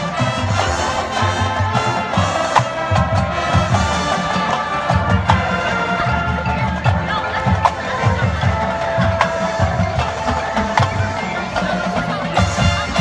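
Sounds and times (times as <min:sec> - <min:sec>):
brass sustaining chords: 0:00.0 - 0:13.0.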